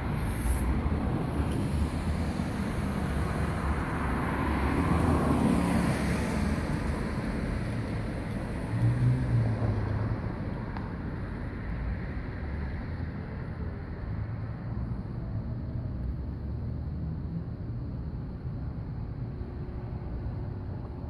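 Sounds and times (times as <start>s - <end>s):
outdoor rumble with hiss: 0.0s - 21.0s.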